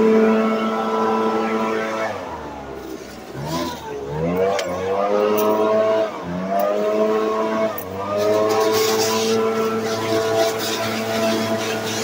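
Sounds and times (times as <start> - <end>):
leaf blower engine revving: 0.0 - 12.0.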